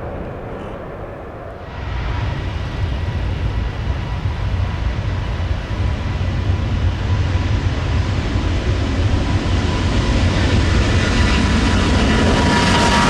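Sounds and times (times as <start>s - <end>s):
deep jet engine rumble: 0.0s - 13.0s.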